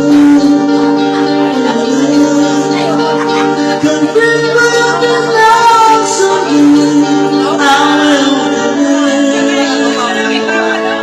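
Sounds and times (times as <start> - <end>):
instrumental backing music: 0.0 - 11.0
man singing: 0.0 - 11.0.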